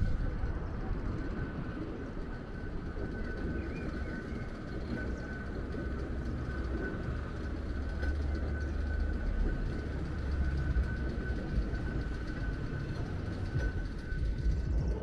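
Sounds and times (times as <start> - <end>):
rail car rumbling: 0.0 - 15.0.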